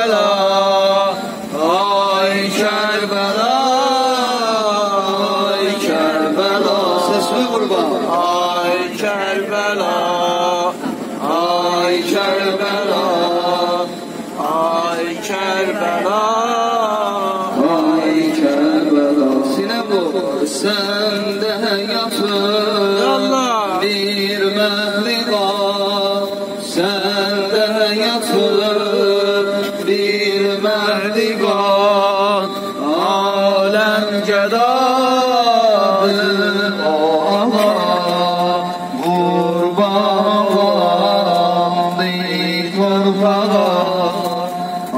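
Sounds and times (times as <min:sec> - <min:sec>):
man chanting: 0:00.0 - 0:44.9.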